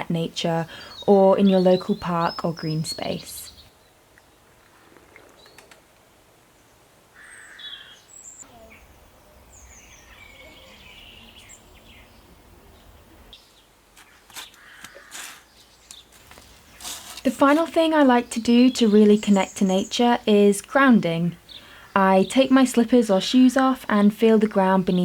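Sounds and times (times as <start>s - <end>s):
birds chirping: 0.0s - 5.8s, 6.6s - 25.0s.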